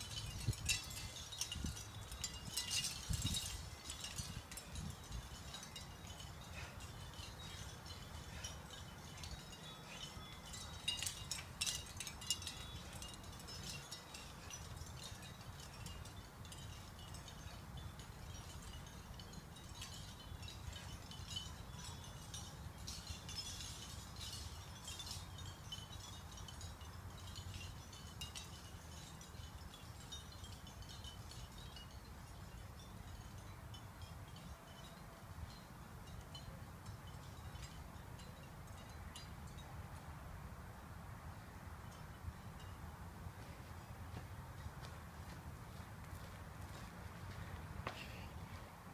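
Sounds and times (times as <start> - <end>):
faint metallic tinkling: 0.0 - 48.6.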